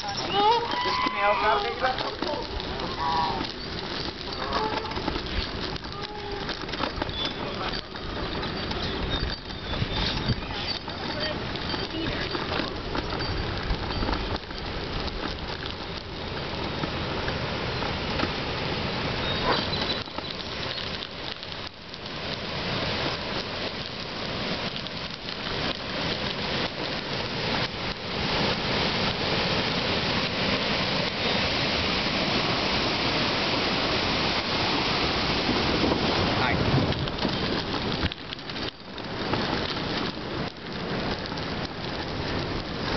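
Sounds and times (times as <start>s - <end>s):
bicycle tyres crunching on gravel: 0.0s - 42.9s.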